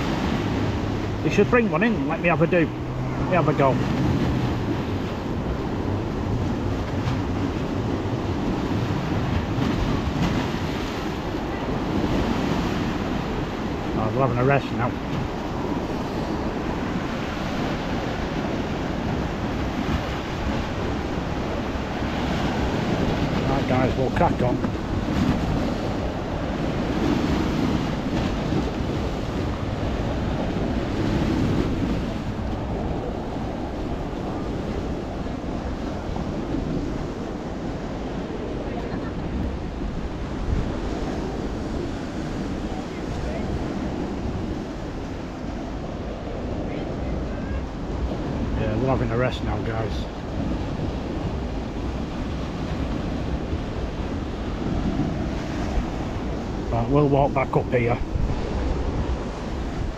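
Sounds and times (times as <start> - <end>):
sea waves breaking on a beach: 0.0 - 59.9
wind buffeting the microphone: 0.0 - 59.9.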